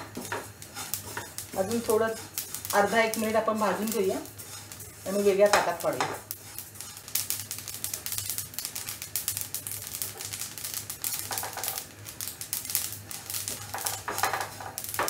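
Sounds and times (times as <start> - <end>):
seeds crackling and popping: 0.0 - 15.0
spatula stirring seeds: 0.0 - 15.0.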